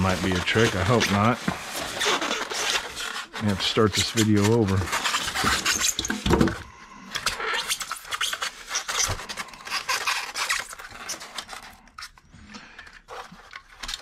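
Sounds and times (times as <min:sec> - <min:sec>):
styrofoam rubbing and scraping: 0:00.0 - 0:12.3, 0:12.9 - 0:14.0.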